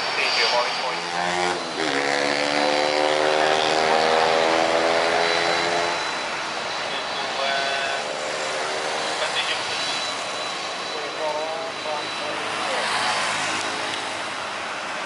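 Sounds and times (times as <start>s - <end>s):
jet engines humming: 0.0s - 15.0s
thin high engine whine: 0.0s - 15.0s.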